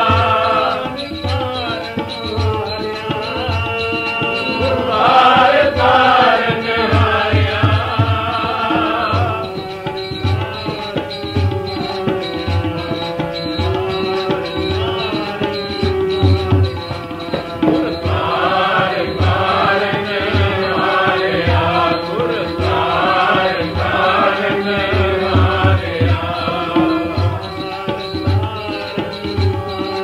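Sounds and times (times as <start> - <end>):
harmonium: 0.0 - 30.0
tabla strokes: 0.0 - 30.0
voices singing a hymn: 0.0 - 30.0.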